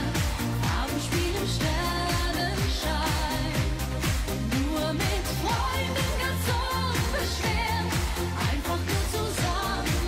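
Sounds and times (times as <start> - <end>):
band with dance beat: 0.0 - 10.0
woman singing pop song: 0.0 - 10.0.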